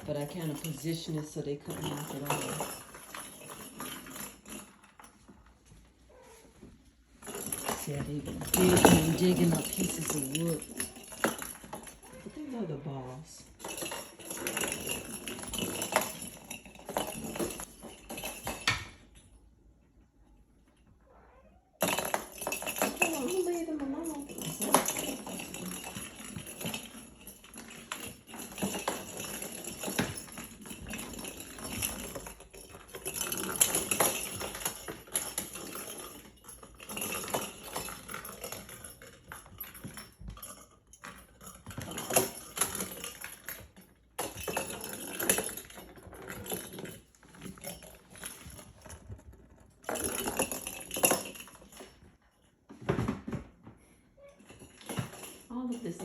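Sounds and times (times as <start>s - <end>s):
toy balls rattling and clattering: 0.0s - 19.4s, 21.8s - 53.4s, 54.0s - 56.0s.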